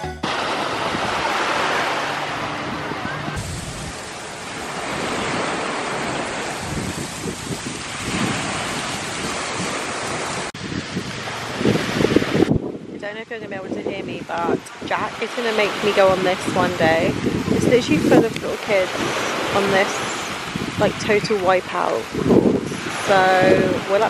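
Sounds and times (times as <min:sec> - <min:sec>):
waves on a pebble beach: 0:00.2 - 0:24.0
wind buffeting microphone: 0:00.2 - 0:24.0.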